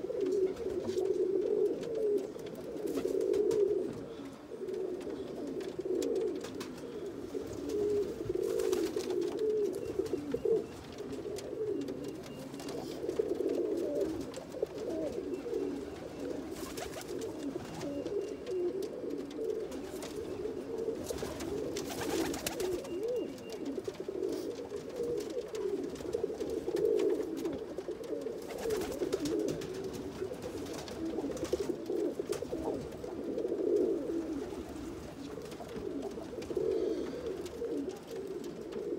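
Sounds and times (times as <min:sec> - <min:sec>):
pigeons cooing: 0:00.0 - 0:38.9.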